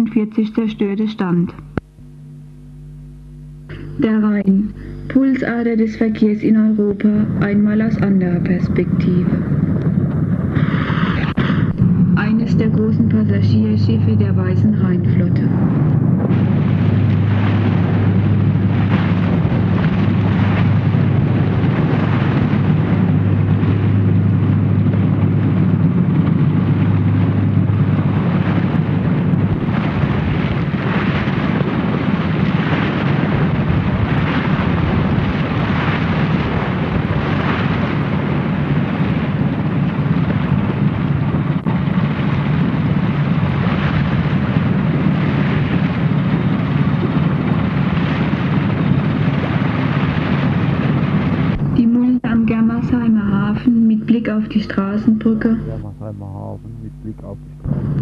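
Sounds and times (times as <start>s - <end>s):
motorboat engine humming: 0.0s - 58.0s
water rushing against hull: 4.3s - 56.6s.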